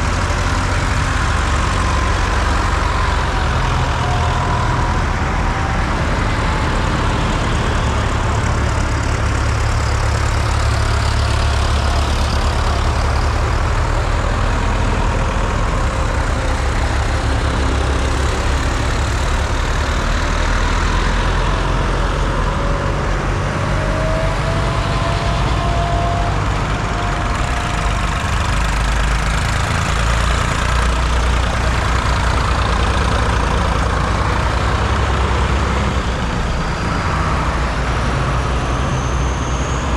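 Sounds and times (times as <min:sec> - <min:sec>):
diesel tractor engines rumbling: 0:00.0 - 0:39.9.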